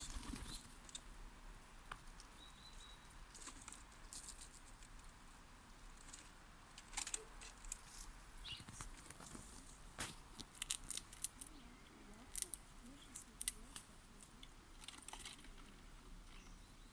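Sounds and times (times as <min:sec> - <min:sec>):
faint clicks and scratches: 0:01.9 - 0:16.6.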